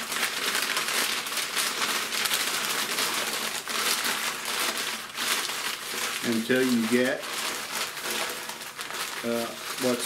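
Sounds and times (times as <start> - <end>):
newspaper crumpling: 0.0 - 10.0.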